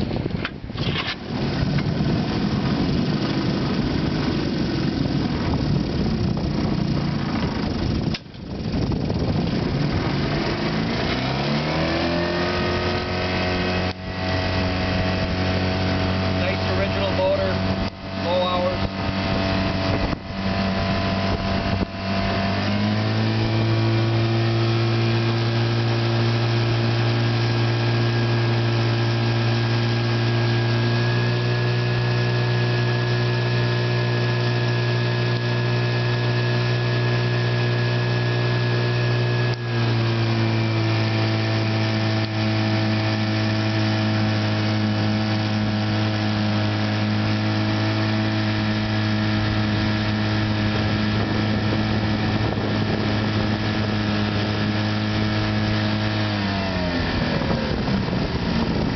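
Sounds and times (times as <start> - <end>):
outboard motor running: 0.0 - 58.9.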